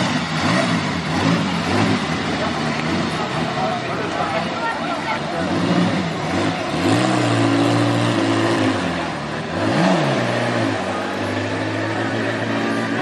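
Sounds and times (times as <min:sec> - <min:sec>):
car engine running with rev blip: 0:00.0 - 0:13.0.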